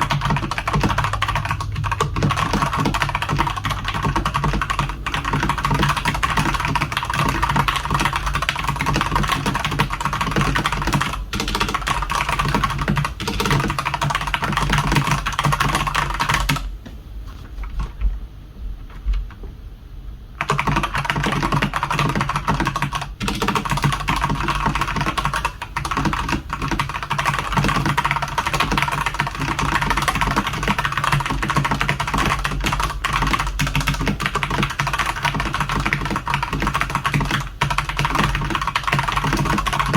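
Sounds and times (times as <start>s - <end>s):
fast mechanical keyboard typing: 0.0s - 16.7s, 20.4s - 39.9s.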